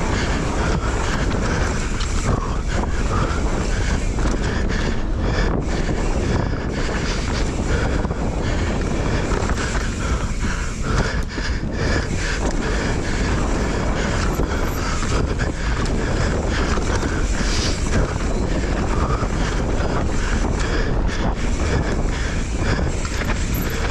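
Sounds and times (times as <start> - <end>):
bike rattling: 0.0 - 23.9
wind on microphone: 0.0 - 23.9.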